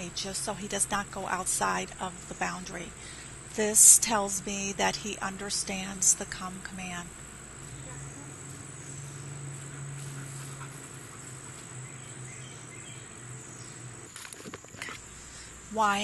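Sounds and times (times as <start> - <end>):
faint low hum: 0.0 - 16.0
insects droning: 0.0 - 16.0.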